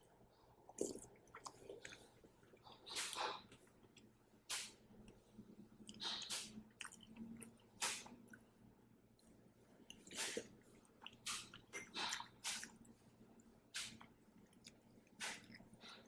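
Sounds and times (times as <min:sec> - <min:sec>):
person chewing food: 0:00.5 - 0:08.5, 0:09.7 - 0:16.0.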